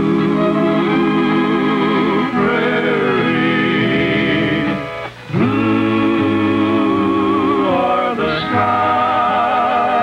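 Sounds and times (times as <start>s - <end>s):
men singing held notes: 0.0s - 10.0s
upright bass: 0.0s - 10.0s.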